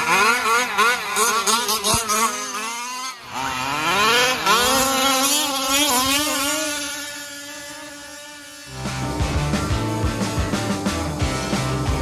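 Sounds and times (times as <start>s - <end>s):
two-stroke engines revving: 0.0s - 12.0s.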